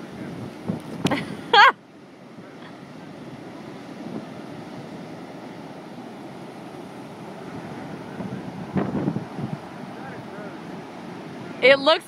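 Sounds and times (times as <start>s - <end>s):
wind buffeting microphone: 0.0s - 1.6s, 3.0s - 12.0s
heavy surf breaking: 0.0s - 12.0s.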